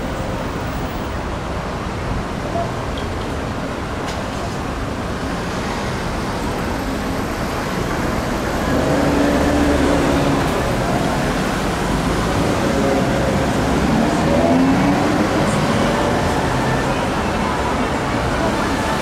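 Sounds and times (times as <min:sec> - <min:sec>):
cars passing: 0:03.8 - 0:19.0.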